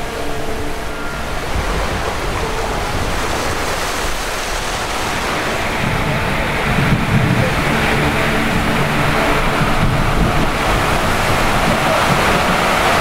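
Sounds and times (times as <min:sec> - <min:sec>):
low wind buffeting: 0:00.0 - 0:13.0
surf rushing: 0:00.0 - 0:13.0
wind over open water: 0:00.0 - 0:13.0.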